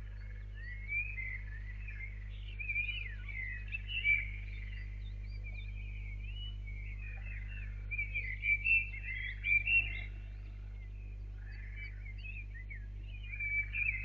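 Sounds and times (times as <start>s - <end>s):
songbirds chirping and trilling: 0.0s - 14.0s
steady low hum: 0.0s - 14.0s.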